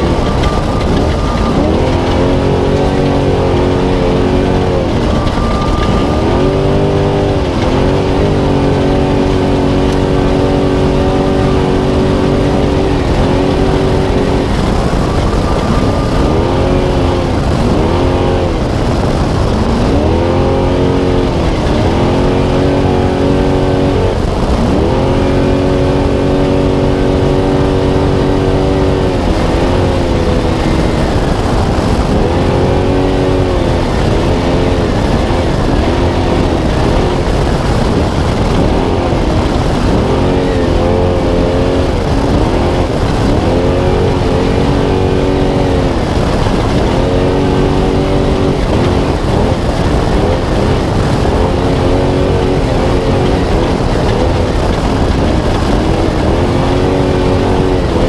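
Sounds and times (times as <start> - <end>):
truck engine at high revs: 0.0 - 58.0
wind and tyre noise: 0.0 - 58.0.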